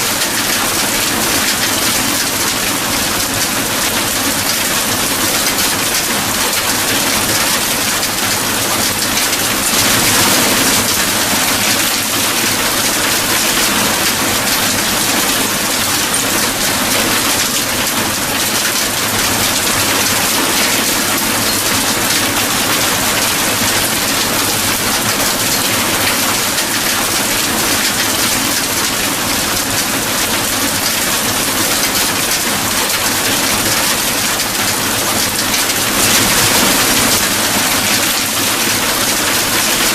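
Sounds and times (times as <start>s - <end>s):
heavy rain hissing: 0.1s - 39.9s.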